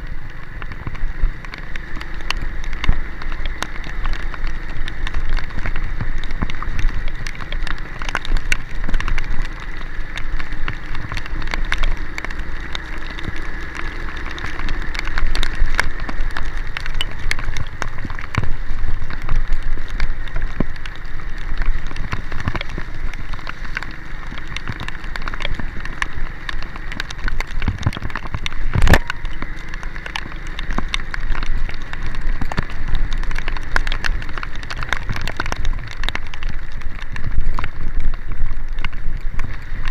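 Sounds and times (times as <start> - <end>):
heavy rain drops striking surface: 0.0 - 39.9.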